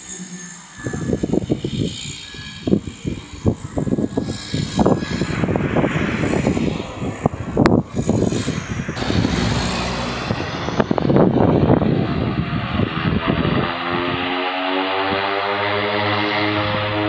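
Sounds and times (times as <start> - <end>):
propeller aircraft engines: 0.0 - 17.0
wind noise on microphone: 0.7 - 15.4.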